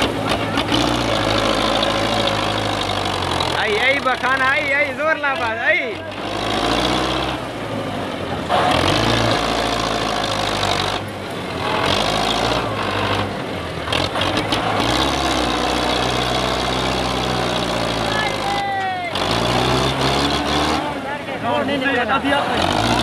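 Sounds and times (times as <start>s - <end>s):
tractor diesel engine straining: 0.0s - 23.0s.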